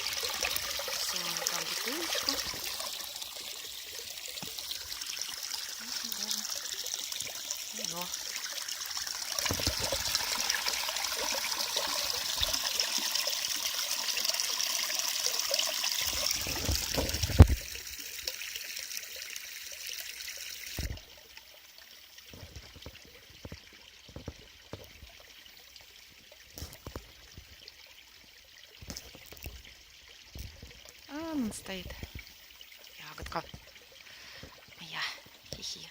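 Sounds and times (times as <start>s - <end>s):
spring water trickling into bottle: 0.0s - 35.9s.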